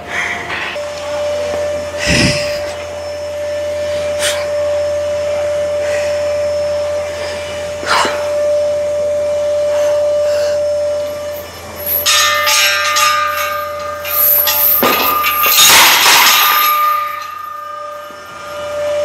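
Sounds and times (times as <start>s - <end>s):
steady high hum: 0.0s - 19.0s.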